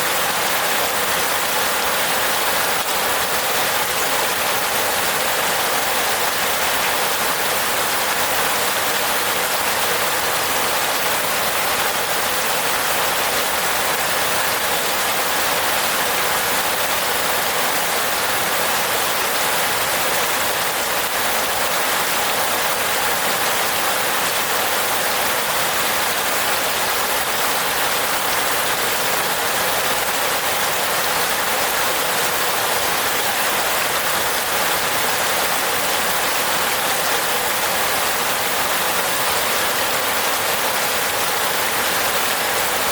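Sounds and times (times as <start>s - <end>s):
rain on a roof: 0.0s - 42.9s.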